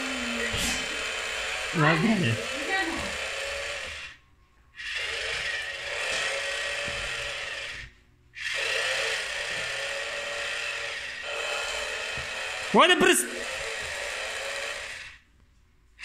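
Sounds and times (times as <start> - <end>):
toy chainsaw buzzing: 0.0 - 15.3.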